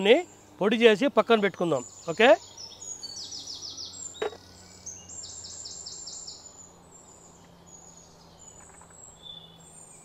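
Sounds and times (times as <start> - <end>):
bird trilling: 0.0 - 9.9.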